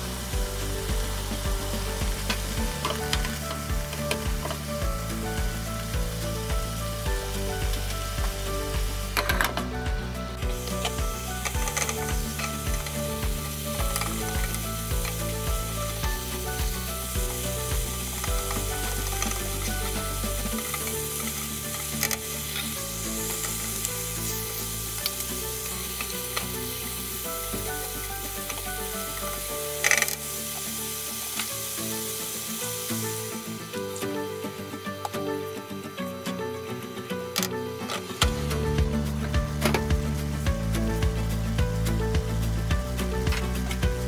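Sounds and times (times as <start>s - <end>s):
food sizzling in a frying pan: 0.0s - 35.6s
background music: 0.0s - 44.0s.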